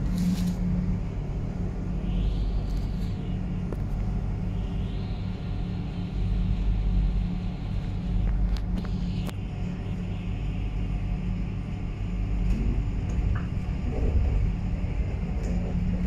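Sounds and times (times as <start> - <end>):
tram rumble and hum: 0.0 - 16.0.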